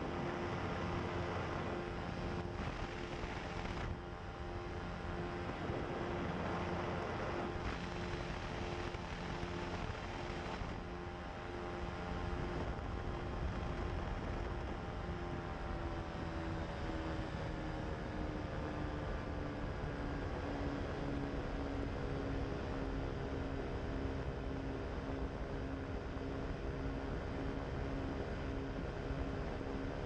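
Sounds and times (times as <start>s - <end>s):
aircraft engine and propeller drone: 0.0s - 30.0s.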